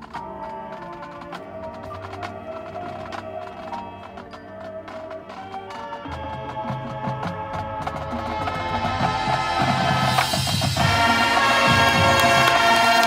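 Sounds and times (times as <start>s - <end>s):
marching band brass and woodwinds: 0.0s - 13.0s.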